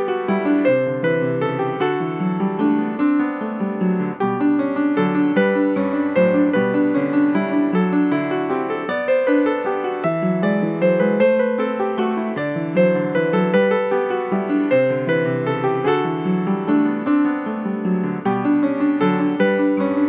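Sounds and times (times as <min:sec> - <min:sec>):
gentle flowing piano music: 0:00.0 - 0:20.0.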